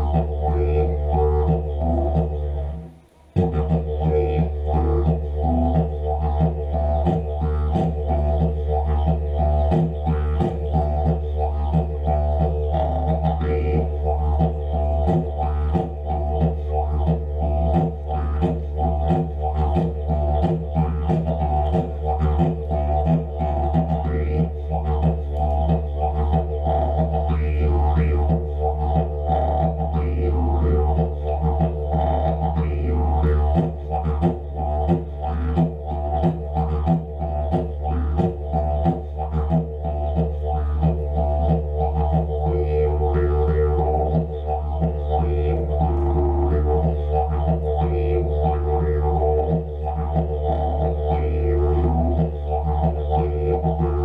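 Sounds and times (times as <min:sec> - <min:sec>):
didgeridoo drone: 0:00.0 - 0:54.0.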